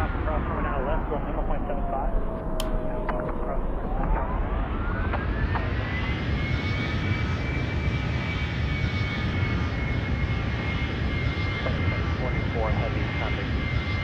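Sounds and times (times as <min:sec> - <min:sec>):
jet engines whining: 0:00.0 - 0:14.0
steady low rumble: 0:00.0 - 0:14.0.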